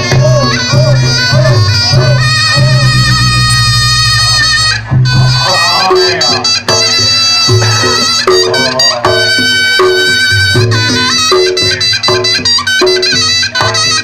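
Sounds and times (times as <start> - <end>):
reedy pipe melody: 0.0 - 14.0.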